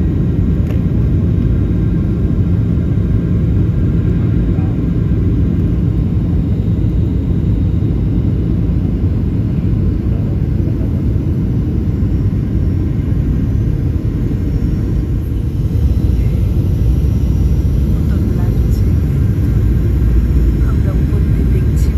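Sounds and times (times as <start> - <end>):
airplane engine drone in cabin: 0.0 - 21.9.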